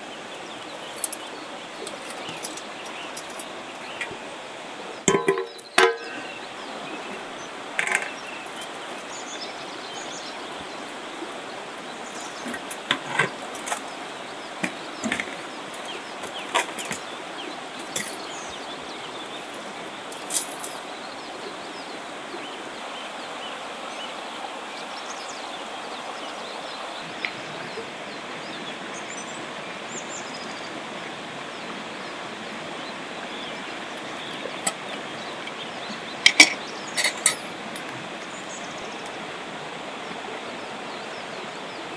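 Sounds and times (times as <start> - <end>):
rocky river running: 0.0 - 41.9.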